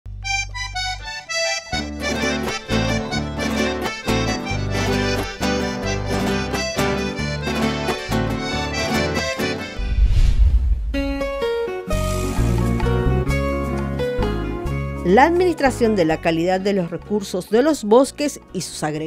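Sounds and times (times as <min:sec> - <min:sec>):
instrumental theme music: 0:00.1 - 0:19.0.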